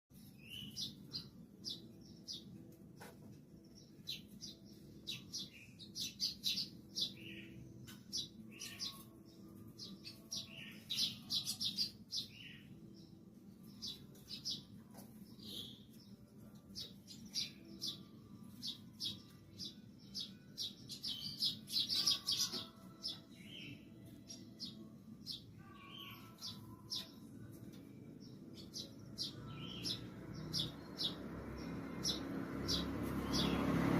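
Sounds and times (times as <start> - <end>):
sparrows chirping: 0.1 - 33.9.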